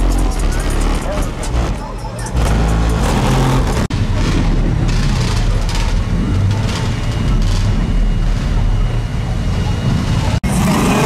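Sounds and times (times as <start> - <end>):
crowd chatter: 0.0 - 10.5
car engine running: 0.0 - 10.6.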